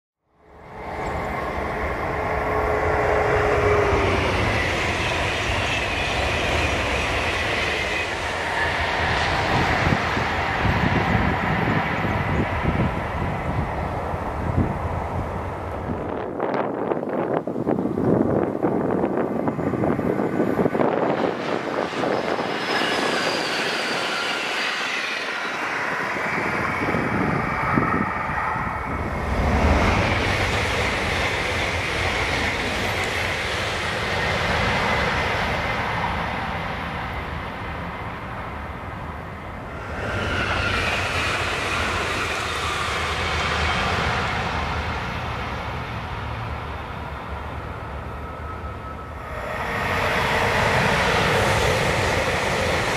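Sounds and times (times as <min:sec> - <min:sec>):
trains rushing past: 0:00.4 - 0:52.9.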